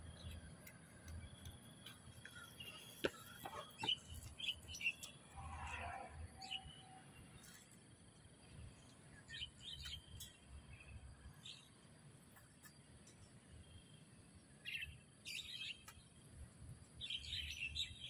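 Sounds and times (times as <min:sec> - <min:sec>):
birds chirping: 0:00.0 - 0:07.5, 0:08.8 - 0:11.8, 0:12.4 - 0:16.2, 0:17.0 - 0:18.0.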